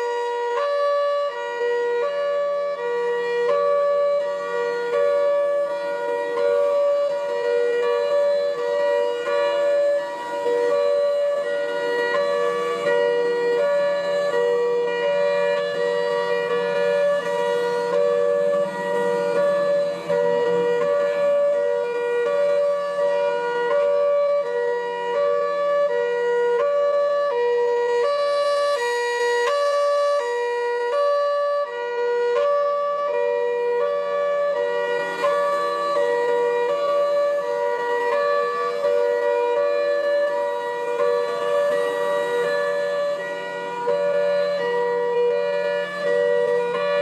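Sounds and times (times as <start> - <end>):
two-tone siren: 0.0 - 47.0.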